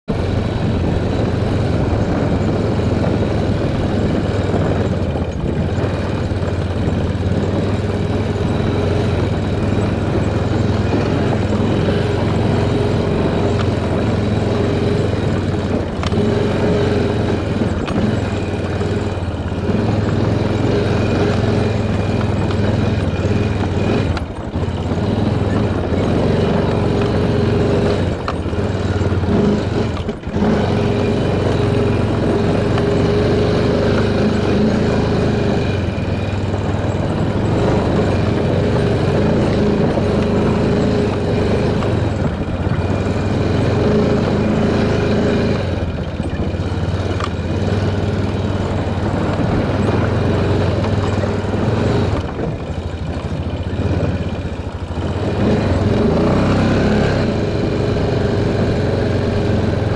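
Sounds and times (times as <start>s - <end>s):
atv engine running: 0.1s - 59.9s.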